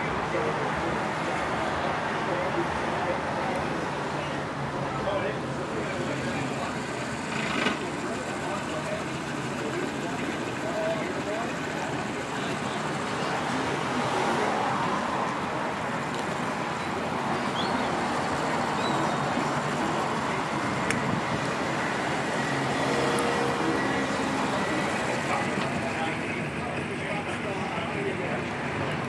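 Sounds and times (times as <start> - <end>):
continuous rushing noise: 0.0 - 29.0.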